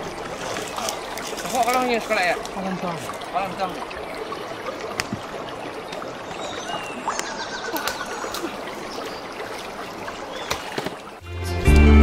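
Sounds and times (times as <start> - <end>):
water splashing around wading: 0.0 - 11.2.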